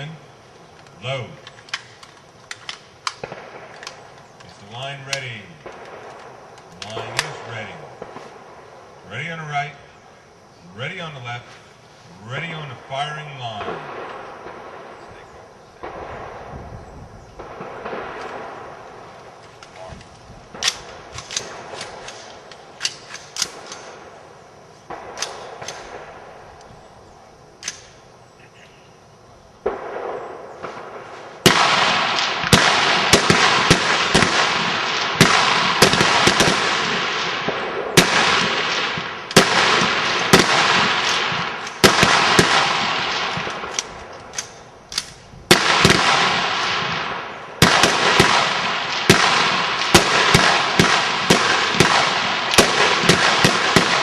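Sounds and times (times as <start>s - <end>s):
rifles firing with echoes: 0.0s - 16.6s, 17.3s - 26.6s, 29.6s - 54.0s.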